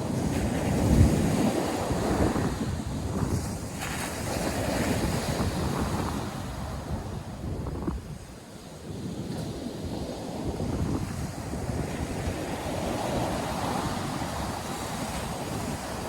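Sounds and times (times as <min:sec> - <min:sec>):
ocean surf washing onto beach: 0:00.0 - 0:16.0
wind buffeting microphone: 0:00.0 - 0:16.0.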